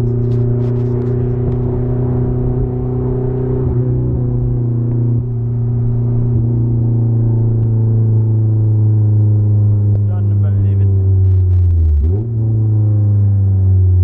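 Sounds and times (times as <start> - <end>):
car engine droning loudly: 0.0 - 14.0.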